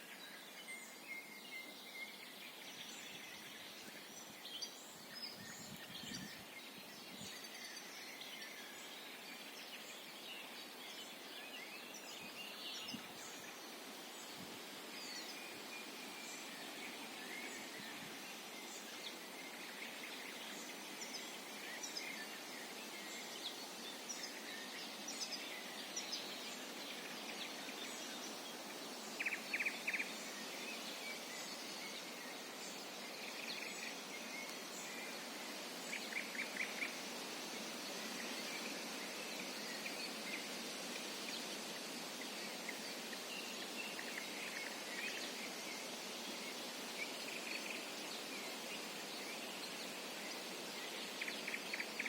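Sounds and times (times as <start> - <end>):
songbirds calling and singing: 0.0 - 52.0
steady background hiss: 0.0 - 52.0.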